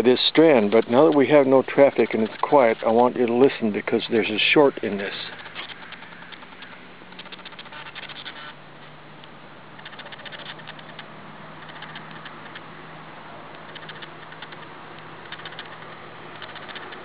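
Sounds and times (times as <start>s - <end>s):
electric fence arcing clicks: 0.0s - 17.0s
steady low hum: 0.0s - 17.0s.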